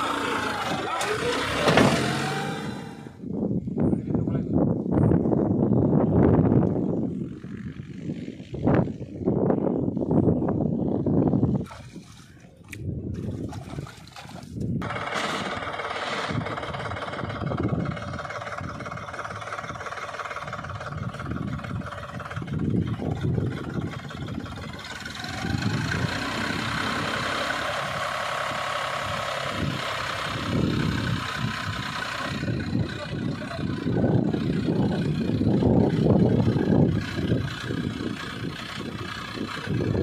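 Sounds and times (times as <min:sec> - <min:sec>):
tractor diesel engine running: 0:00.0 - 0:11.6, 0:14.6 - 0:40.0.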